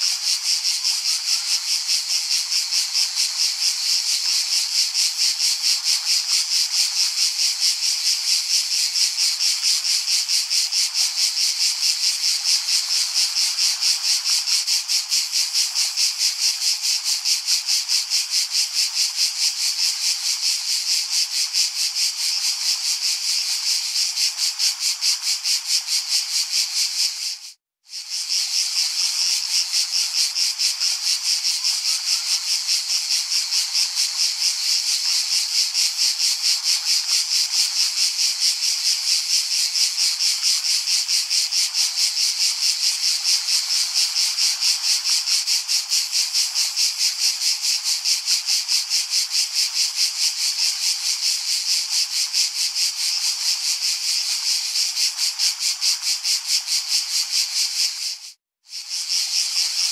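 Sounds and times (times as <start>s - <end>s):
cicada buzzing: 0.0s - 59.9s.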